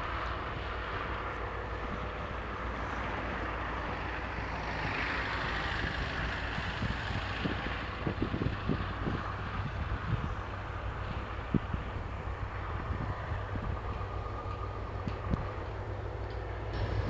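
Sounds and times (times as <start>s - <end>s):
locomotive engine humming: 0.0s - 17.0s
train running noise: 0.0s - 17.0s.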